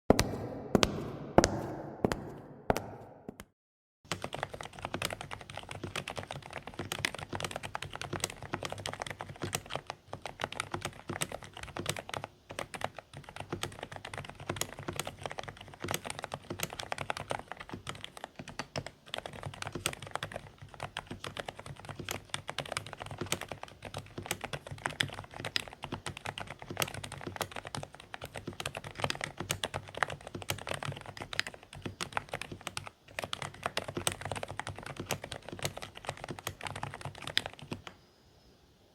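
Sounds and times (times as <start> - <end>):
fast typing on quiet keyboard: 4.1 - 38.0.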